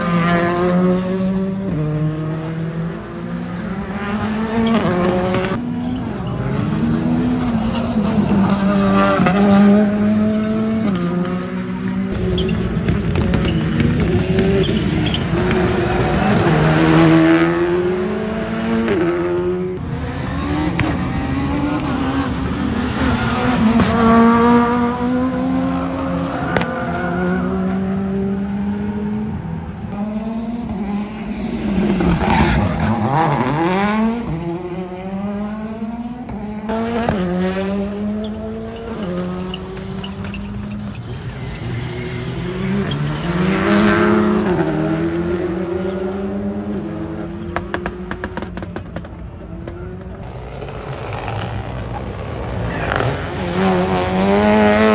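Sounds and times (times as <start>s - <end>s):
cars passing by: 0.0s - 54.9s
rally car engines revving: 0.0s - 54.9s.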